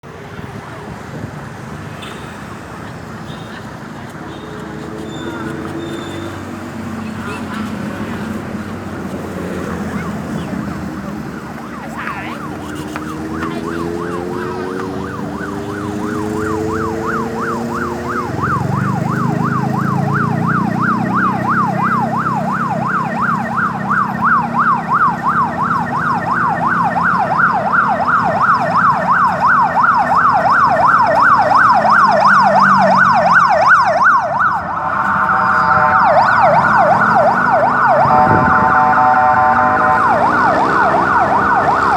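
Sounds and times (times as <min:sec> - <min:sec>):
ambulance siren yelping: 0:03.0 - 0:41.9.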